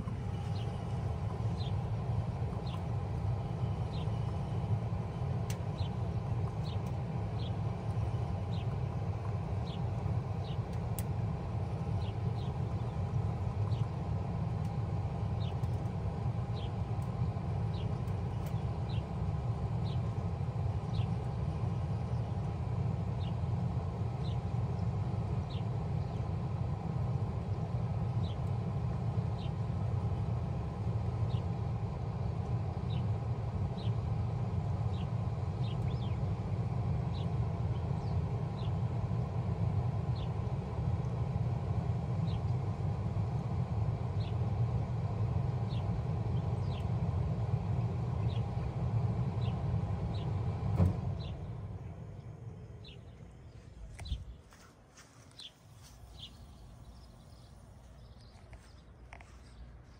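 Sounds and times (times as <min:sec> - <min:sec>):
heat pump humming: 0:00.0 - 0:59.9.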